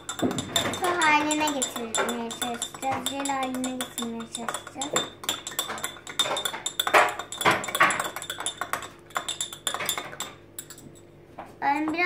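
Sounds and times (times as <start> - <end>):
spoon clinking and scraping bowl: 0.0 - 11.1.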